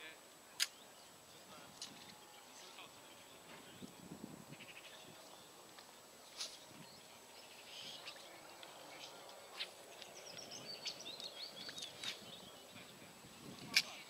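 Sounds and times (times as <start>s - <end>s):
small bird chirping: 1.9s - 5.5s, 6.3s - 14.0s.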